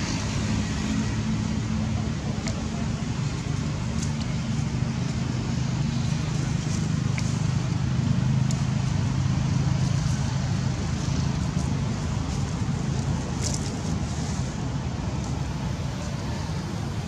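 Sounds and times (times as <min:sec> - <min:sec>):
low motor-like drone: 0:00.0 - 0:17.0.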